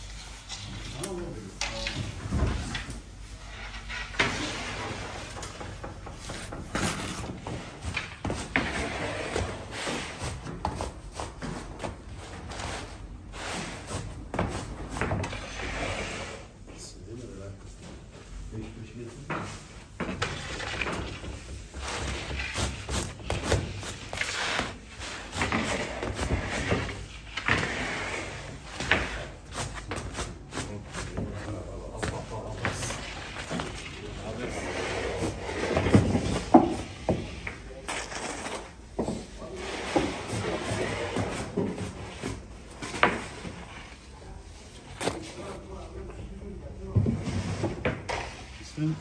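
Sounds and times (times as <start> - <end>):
knocks and clatter of bakery work: 0.0 - 49.0
room noise: 0.0 - 49.0
scraping and rustling bread: 3.0 - 16.6, 18.3 - 46.0.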